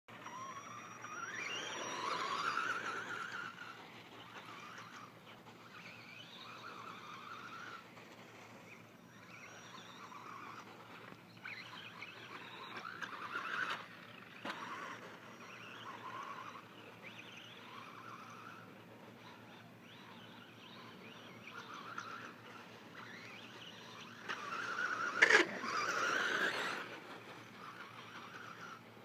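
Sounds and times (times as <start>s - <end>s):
electric motor whining: 0.1s - 29.0s.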